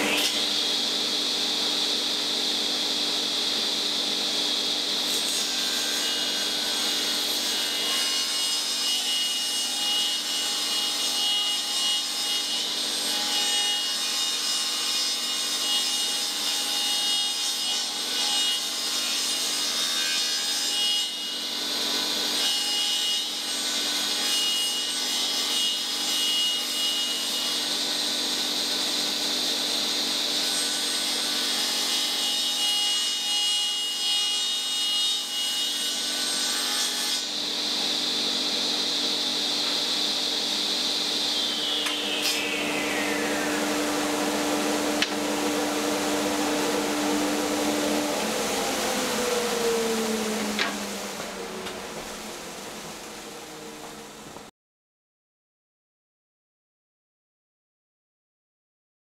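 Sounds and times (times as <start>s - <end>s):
table saw cutting wood: 0.0s - 54.5s.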